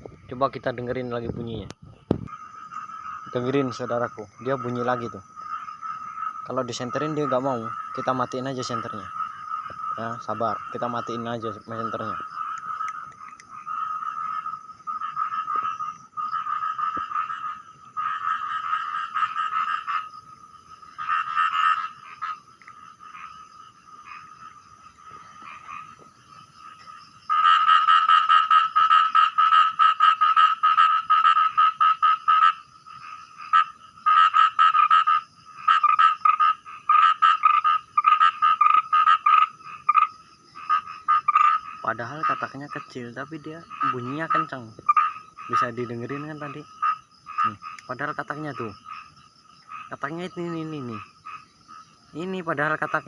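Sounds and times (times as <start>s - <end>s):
frog rattling call: 0.0s - 53.0s.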